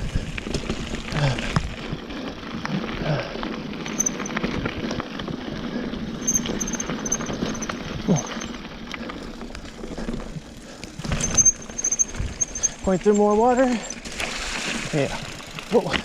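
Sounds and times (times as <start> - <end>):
bike knocks and rattles: 0.1 - 1.9, 3.8 - 16.0
tyres crunching over gravel: 0.2 - 16.0.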